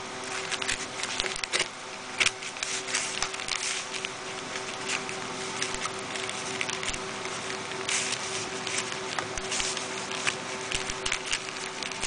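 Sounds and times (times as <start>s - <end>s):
steady low hum: 0.0s - 12.0s
scissors cutting plastic: 0.2s - 12.0s
plastic crinkling: 0.3s - 12.0s.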